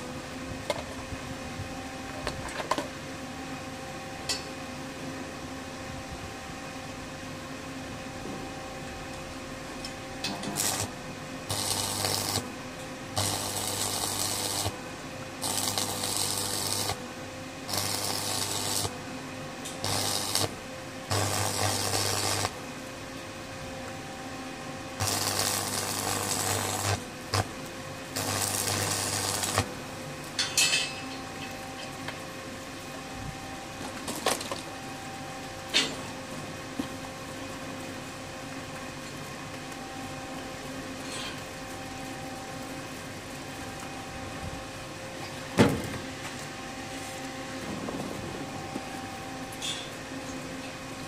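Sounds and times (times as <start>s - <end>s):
arc welding hiss and buzz: 7.9s - 51.0s.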